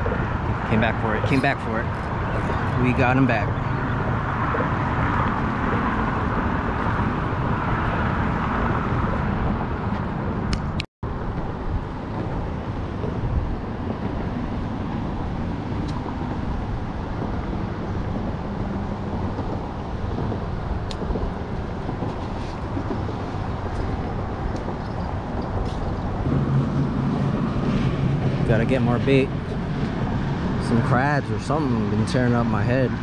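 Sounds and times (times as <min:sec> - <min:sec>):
low rumbling outdoor background noise: 0:00.0 - 0:33.0.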